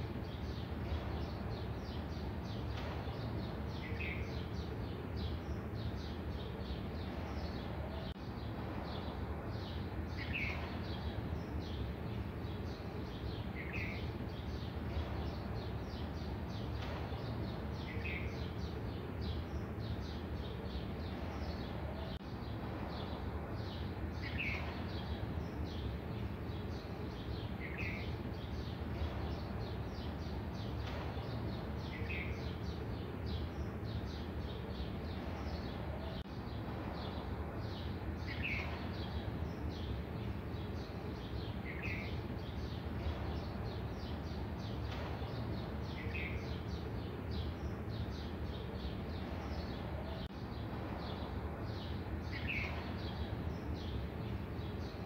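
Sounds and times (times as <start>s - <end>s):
bird chirping: 0.2s - 55.0s.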